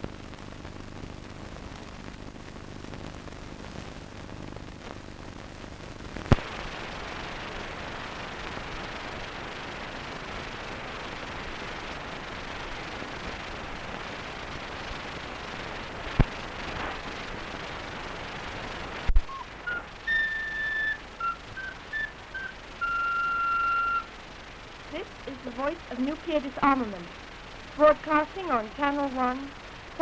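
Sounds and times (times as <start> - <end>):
film soundtrack hiss: 0.0 - 30.0.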